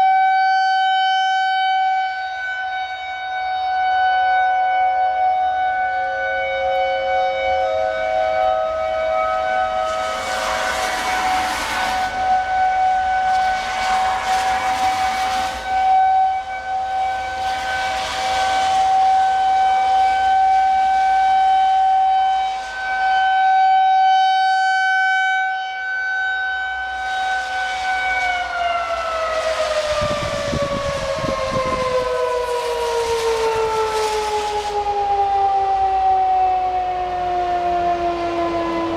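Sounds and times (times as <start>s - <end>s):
tornado warning siren: 0.0s - 38.9s.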